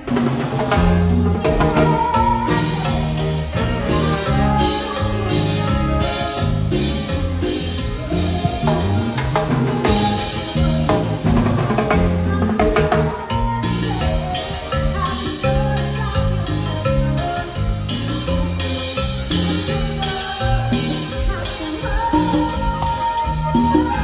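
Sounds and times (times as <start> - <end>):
accordion: 0.0 - 24.0
cumbia band playing: 0.0 - 24.0
timbales and congas: 0.0 - 24.0
woman singing: 0.6 - 24.0.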